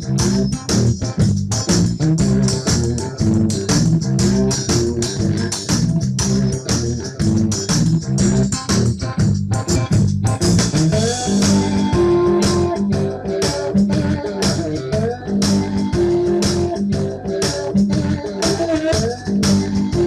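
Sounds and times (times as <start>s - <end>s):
upbeat intro music: 0.0s - 20.0s.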